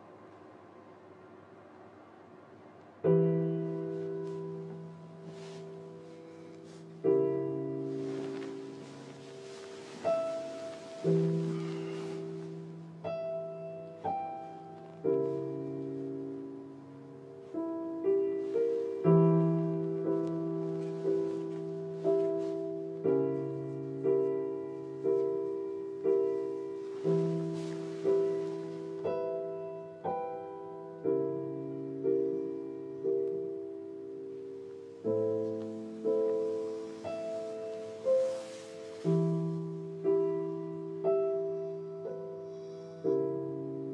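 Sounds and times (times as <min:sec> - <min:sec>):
slow solo piano music: 0:02.8 - 0:43.9.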